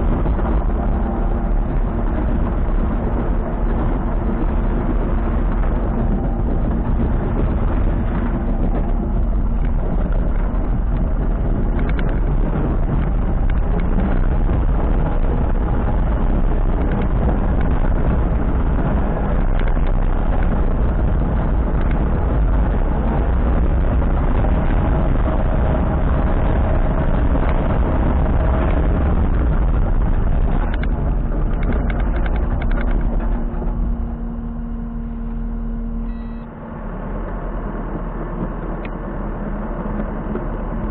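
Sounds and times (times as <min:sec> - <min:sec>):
diesel engine running loudly: 0:00.0 - 0:40.9.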